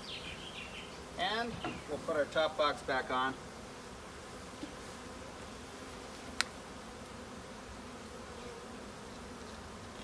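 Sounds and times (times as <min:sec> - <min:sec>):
honey bees buzzing: 0:00.0 - 0:10.0.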